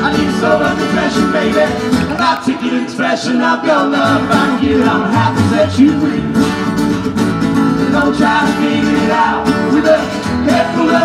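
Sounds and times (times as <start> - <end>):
strummed guitars: 0.0 - 11.0
upright bass: 0.0 - 11.0.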